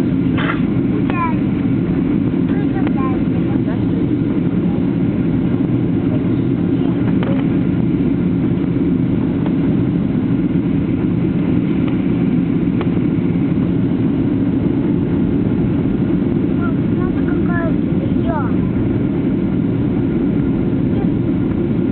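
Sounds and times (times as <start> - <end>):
airliner engines droning: 0.0 - 21.9.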